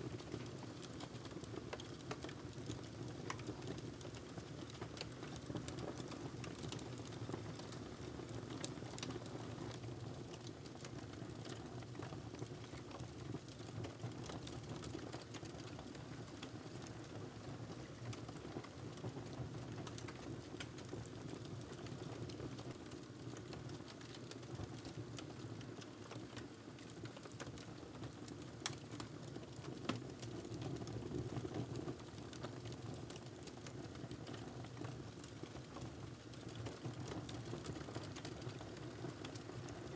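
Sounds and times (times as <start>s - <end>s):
fire crackles: 0.1s - 39.9s.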